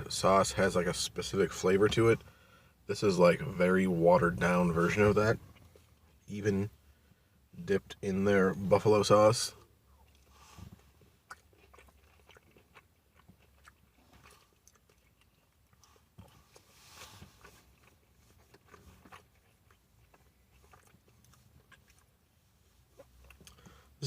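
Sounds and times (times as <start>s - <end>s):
person chewing with light crunches: 0.0s - 24.0s.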